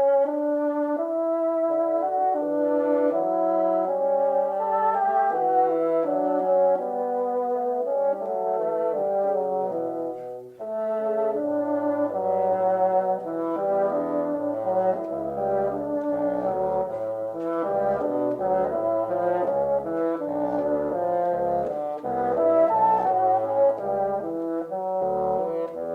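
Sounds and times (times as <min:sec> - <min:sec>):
brass background music: 0:00.0 - 0:25.9.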